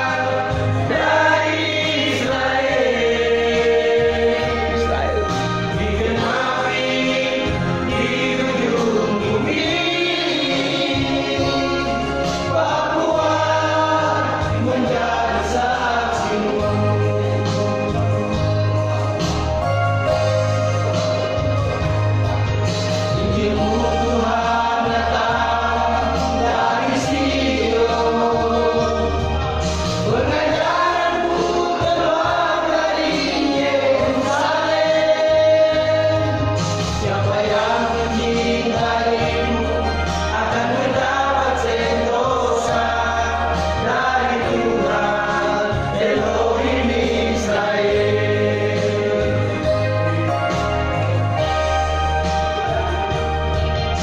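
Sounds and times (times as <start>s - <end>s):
vocal group singing gospel: 0.0s - 54.0s.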